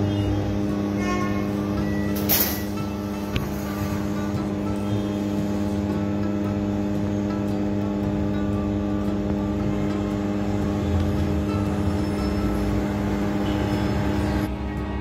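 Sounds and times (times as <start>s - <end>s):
machine hum with rumble: 0.0s - 15.0s.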